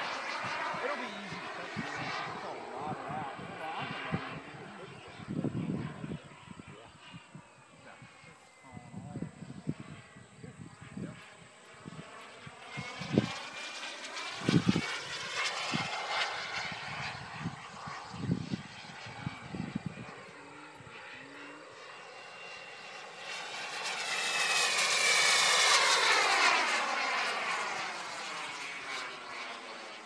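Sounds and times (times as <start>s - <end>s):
jet turbine engine whining: 0.0s - 30.0s.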